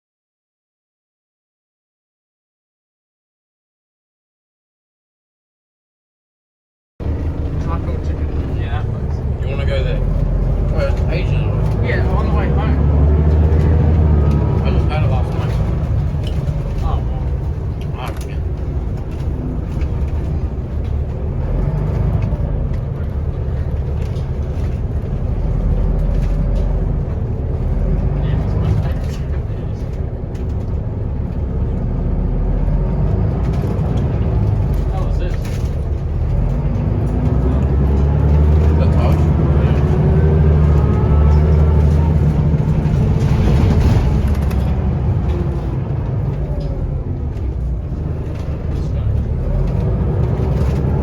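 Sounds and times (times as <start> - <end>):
bus diesel engine drone: 7.0 - 51.0.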